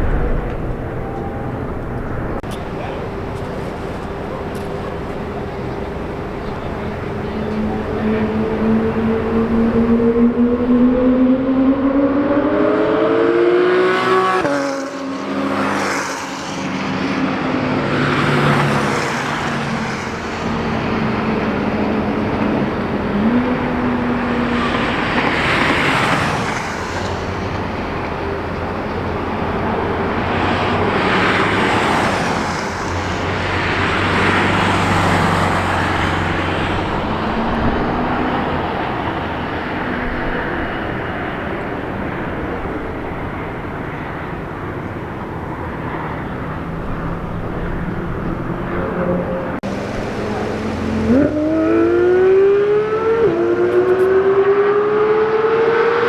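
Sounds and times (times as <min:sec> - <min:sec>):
sports cars accelerating past: 0:00.0 - 0:56.0.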